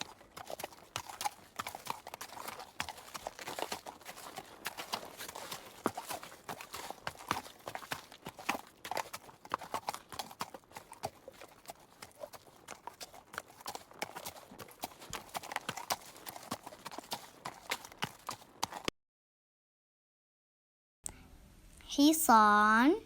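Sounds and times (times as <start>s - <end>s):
horse hooves clip-clopping: 0.0s - 18.9s.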